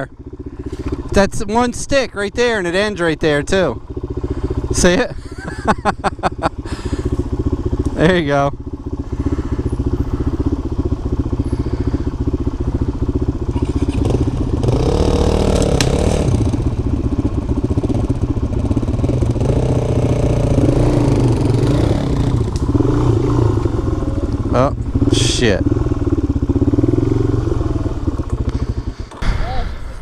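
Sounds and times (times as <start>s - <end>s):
dirt bike engine revving: 0.0s - 29.3s.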